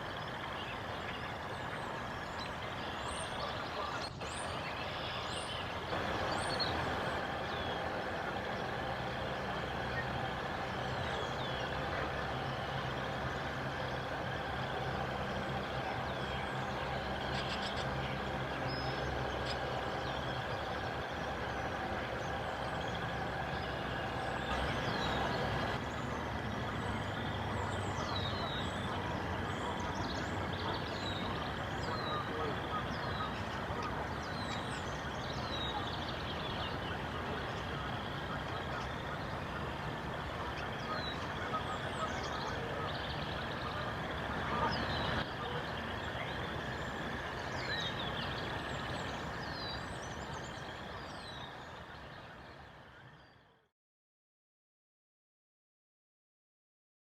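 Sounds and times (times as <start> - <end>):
vehicle engine rumble: 0.0 - 53.2
small birds chirping: 0.0 - 53.4.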